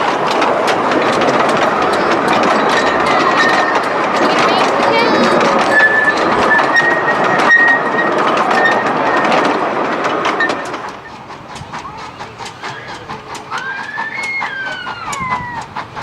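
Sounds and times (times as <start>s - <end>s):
steam train rushing: 0.0s - 16.0s
wheels clicking over rail joints: 0.0s - 16.0s.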